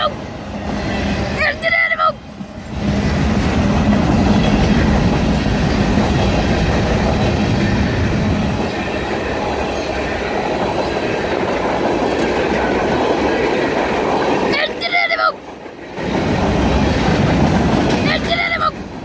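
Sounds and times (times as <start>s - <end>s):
train rolling over rails: 0.0s - 19.0s.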